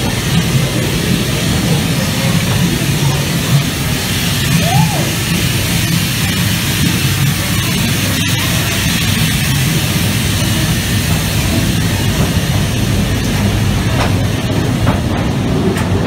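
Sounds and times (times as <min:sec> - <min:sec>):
ride cars rumbling on track: 0:00.0 - 0:16.0.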